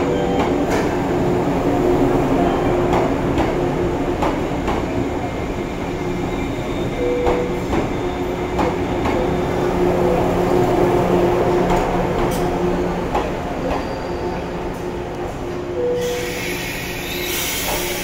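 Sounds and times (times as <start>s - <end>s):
electric train humming: 0.0s - 18.0s.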